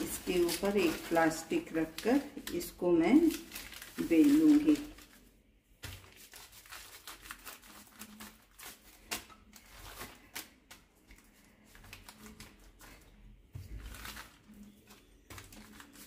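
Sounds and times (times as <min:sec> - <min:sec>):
plastic sheets crinkling: 0:00.0 - 0:16.0.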